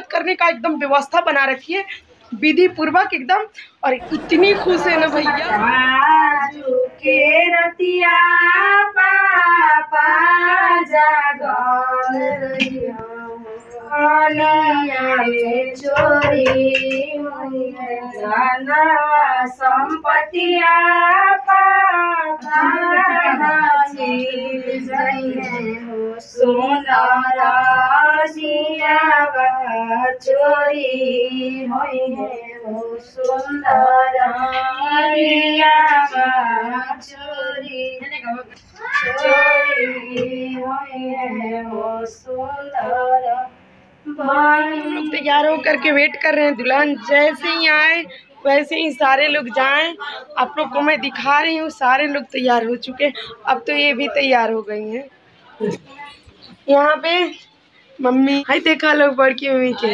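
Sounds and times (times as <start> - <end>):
woman singing unaccompanied: 4.0 - 55.2, 58.0 - 59.9.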